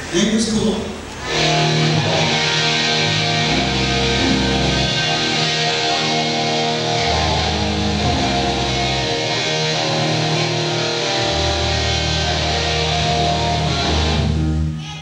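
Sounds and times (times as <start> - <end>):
electric guitar: 1.0 - 15.0
live rock band playing: 1.2 - 14.9
low bass notes: 1.3 - 14.7.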